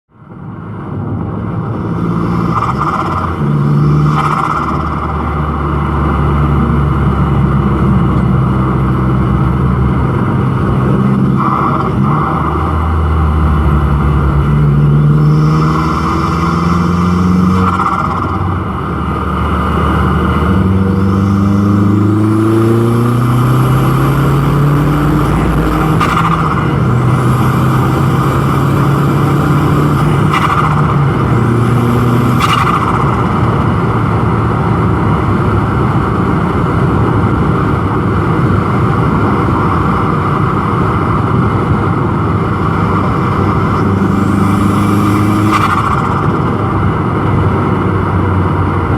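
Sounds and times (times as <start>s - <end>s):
car engine revving and accelerating: 0.7s - 48.9s.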